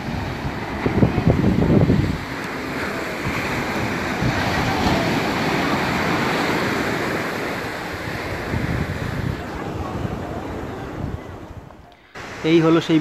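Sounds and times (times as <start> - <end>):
waves breaking on sandy beach: 0.0 - 13.0.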